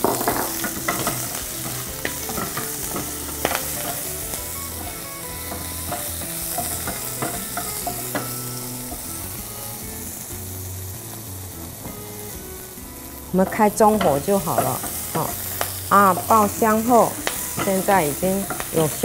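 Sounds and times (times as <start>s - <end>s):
scallions sizzling in oil: 0.0s - 19.0s.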